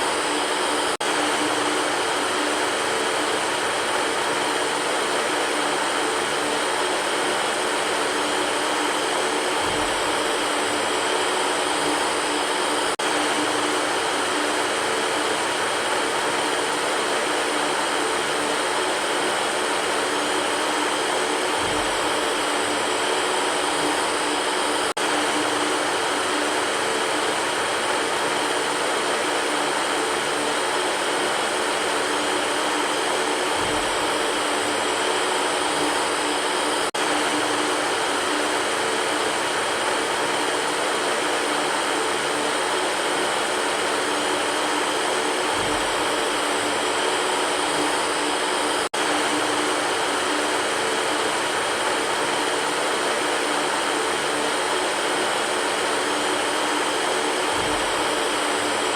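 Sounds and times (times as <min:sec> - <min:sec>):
electric fan running: 0:00.0 - 0:58.9.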